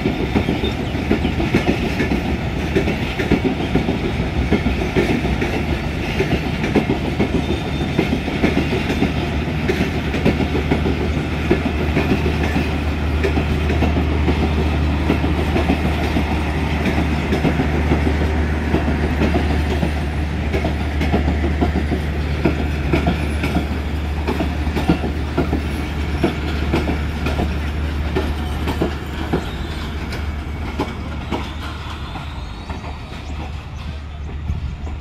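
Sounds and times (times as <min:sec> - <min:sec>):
low train rumble: 0:00.0 - 0:35.0
train wheels clattering over rail joints: 0:00.0 - 0:35.0.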